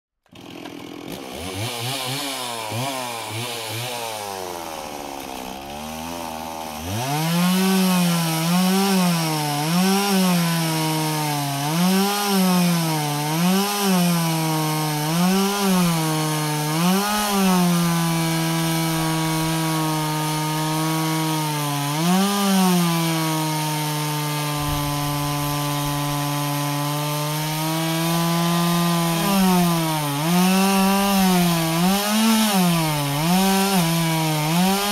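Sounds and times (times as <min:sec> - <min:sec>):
chainsaw engine revving: 0:00.2 - 0:34.9.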